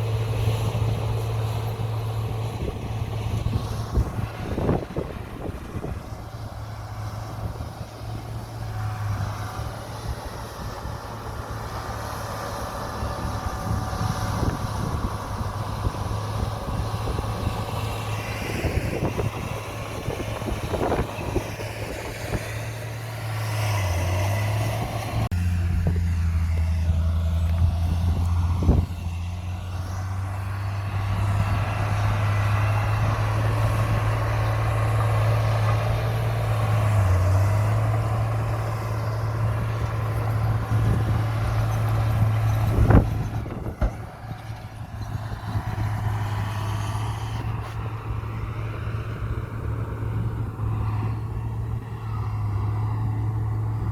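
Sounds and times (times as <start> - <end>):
diesel machinery engine drone: 0.0 - 53.9.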